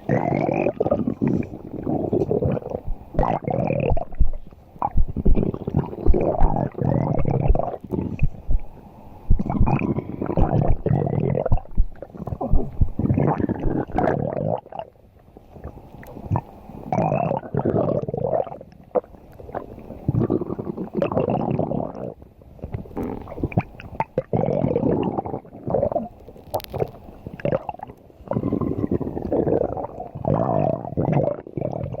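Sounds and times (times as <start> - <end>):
stomach growling: 0.0 - 32.0.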